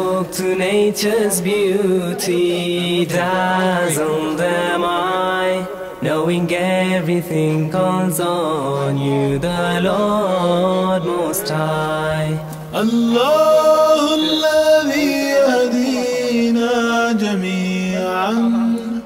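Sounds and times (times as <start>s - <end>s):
vocal chant in long held notes: 0.0s - 19.0s.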